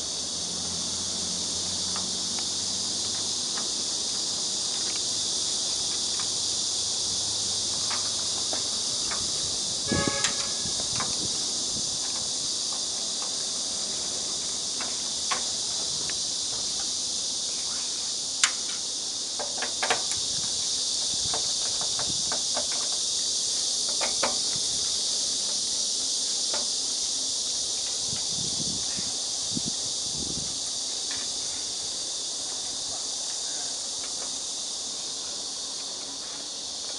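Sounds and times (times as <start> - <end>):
high-pitched hiss: 0.0 - 36.9.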